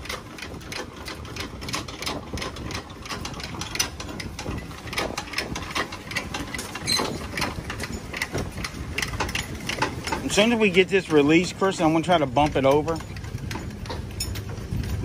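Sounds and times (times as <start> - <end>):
jack gears clicking: 0.0 - 15.0.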